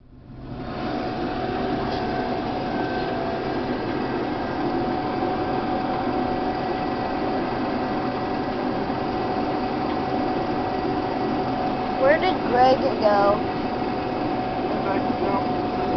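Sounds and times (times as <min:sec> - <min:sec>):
combine harvester droning: 0:00.0 - 0:15.9.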